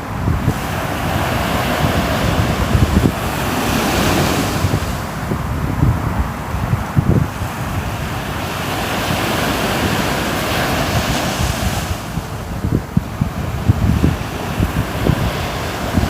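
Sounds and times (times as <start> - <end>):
ocean waves washing on shore: 0.0 - 16.0
wind buffeting microphone: 0.0 - 16.0.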